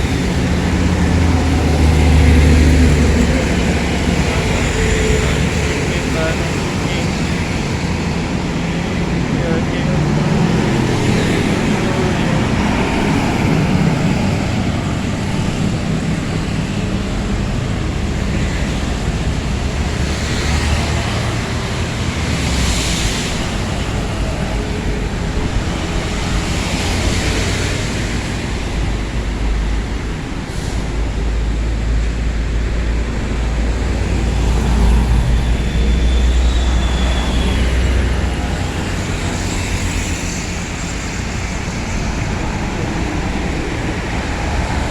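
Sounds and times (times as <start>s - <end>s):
passing traffic: 0.0s - 44.9s
vehicle road and engine noise: 0.0s - 44.9s.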